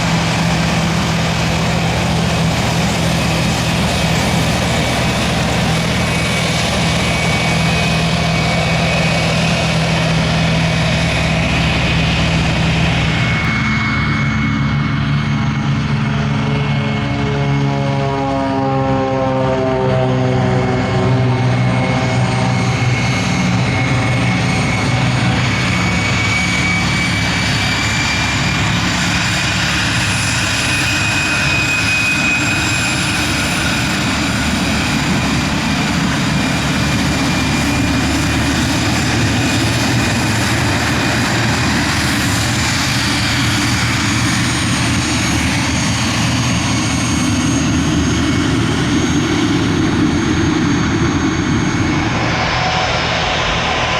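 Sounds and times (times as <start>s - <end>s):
airplane engines with high whine: 0.0s - 53.9s.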